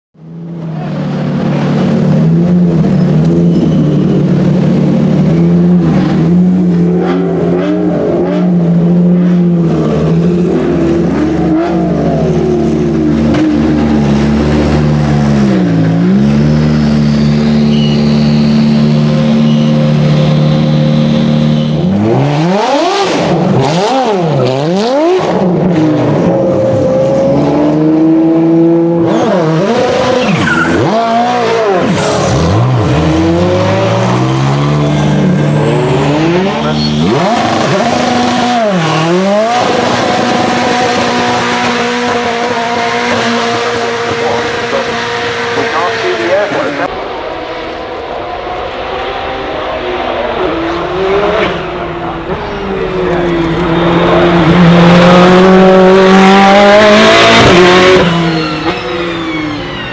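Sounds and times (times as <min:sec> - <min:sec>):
car engine idling and revving: 0:00.2 - 0:59.9.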